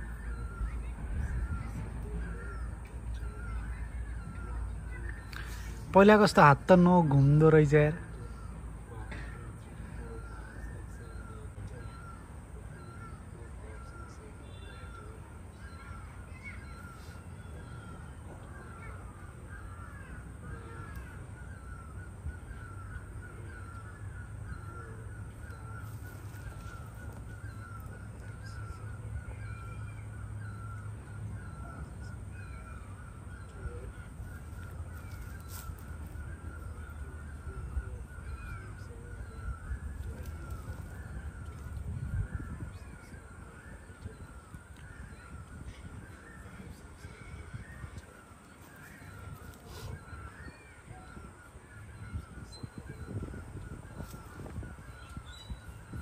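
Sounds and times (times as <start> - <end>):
birds calling and chattering: 0.0 - 56.0.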